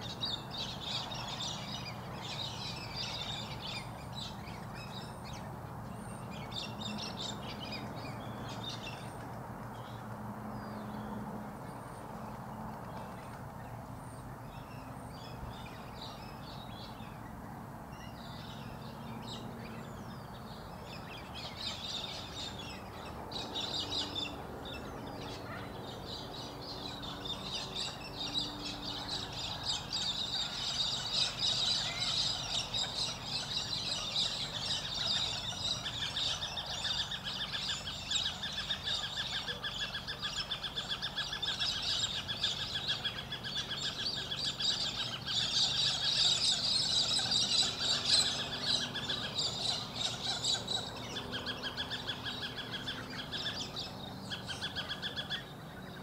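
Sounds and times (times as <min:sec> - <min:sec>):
birds chirping in chorus: 0:00.0 - 0:56.0.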